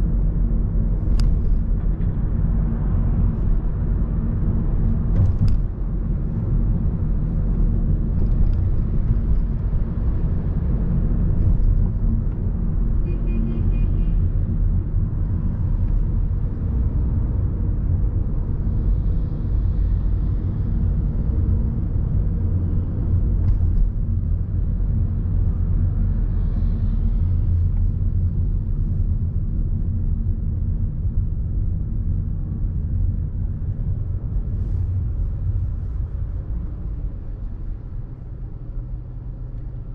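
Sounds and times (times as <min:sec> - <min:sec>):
city road traffic rumble: 0:00.0 - 0:39.9.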